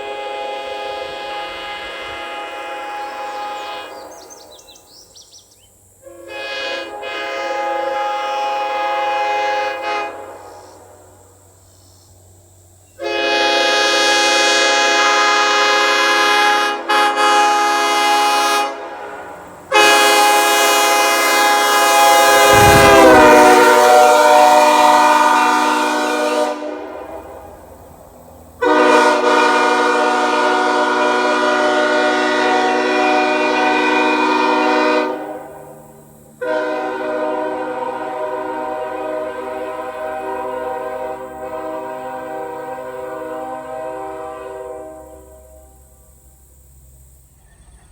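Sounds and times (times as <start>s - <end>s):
locomotive air horn chord blasts: 0.0s - 4.3s, 6.0s - 10.9s, 13.0s - 27.3s, 28.6s - 35.8s, 36.4s - 46.1s.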